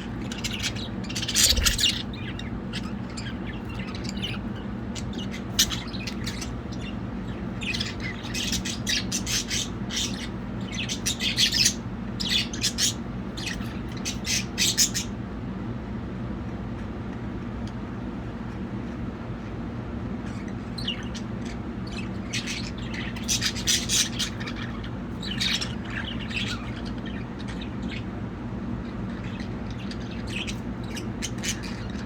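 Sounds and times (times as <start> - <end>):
budgerigars chirping and squawking: 0.0 - 15.3, 20.2 - 32.0
steady low hum: 0.0 - 32.0.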